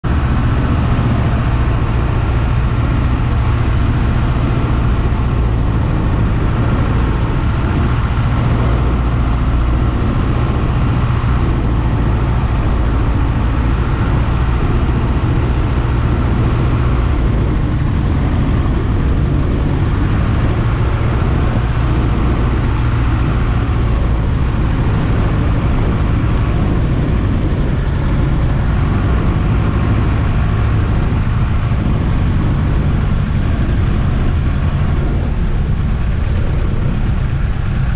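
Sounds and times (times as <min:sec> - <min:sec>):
small plane engine droning: 0:00.0 - 0:37.9.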